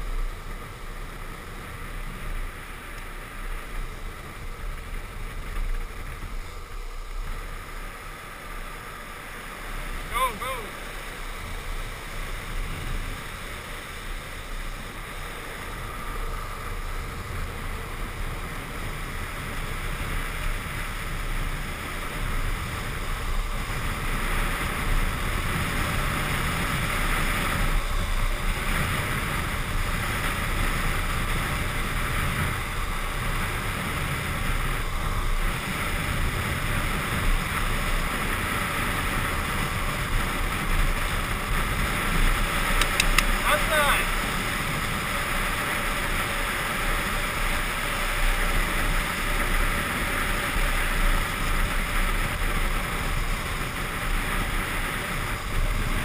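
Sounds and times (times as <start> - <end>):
skateboard wheels rolling on asphalt: 0.0 - 56.0
wind rushing over microphone: 0.0 - 56.0.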